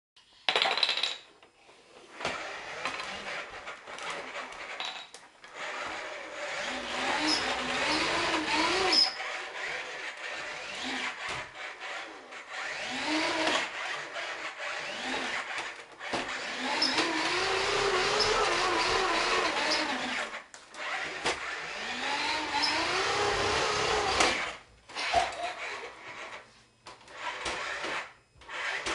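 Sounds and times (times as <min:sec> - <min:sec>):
toy motor whirring: 0:02.3 - 0:26.4, 0:27.1 - 0:28.9.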